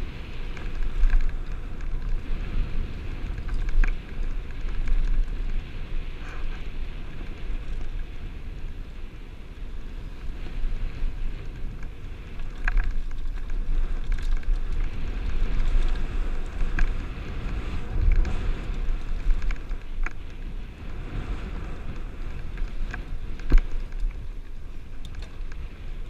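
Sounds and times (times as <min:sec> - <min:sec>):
tyres rolling on dirt and rock: 0:00.0 - 0:09.0, 0:09.8 - 0:26.0
bike clicks and rattles: 0:00.0 - 0:26.0
wind buffeting microphone: 0:00.0 - 0:26.0.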